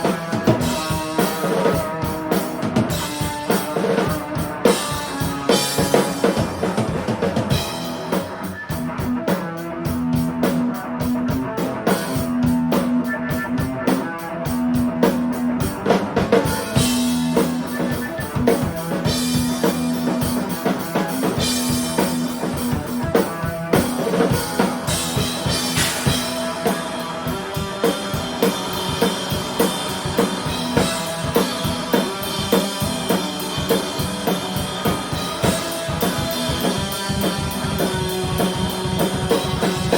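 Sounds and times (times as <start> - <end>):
drum kit beat: 0.0 - 39.9.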